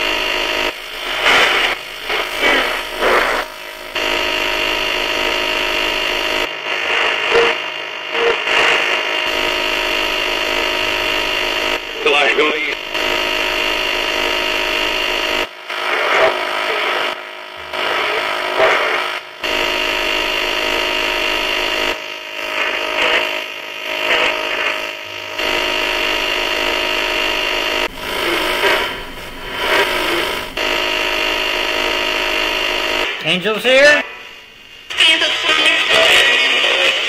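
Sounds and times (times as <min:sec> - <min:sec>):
radio static buzzing: 0:00.0 - 0:37.0.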